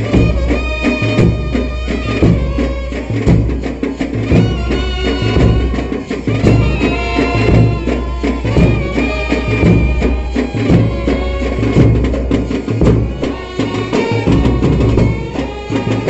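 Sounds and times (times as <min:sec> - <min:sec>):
heavy drums beating: 0:00.0 - 0:16.0
sustained melody: 0:00.0 - 0:16.0.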